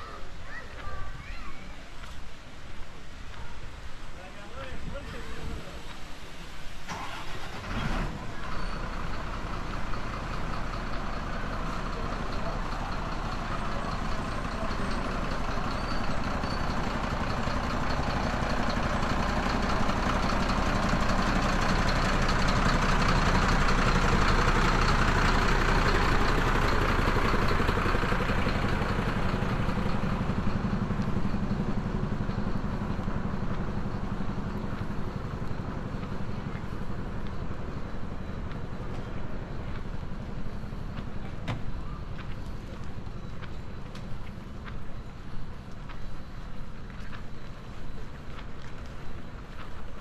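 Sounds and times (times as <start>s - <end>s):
vehicle engine running: 6.9s - 50.0s.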